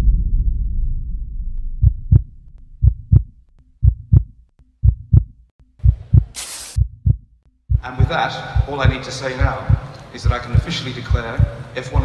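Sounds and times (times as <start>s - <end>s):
deep low boom: 0.0s - 10.7s
heartbeat thumps: 1.6s - 12.0s.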